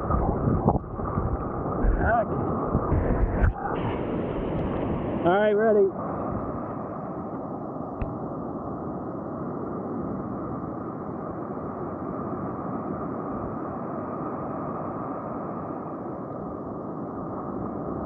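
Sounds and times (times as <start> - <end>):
ocean surf breaking: 0.0 - 18.0.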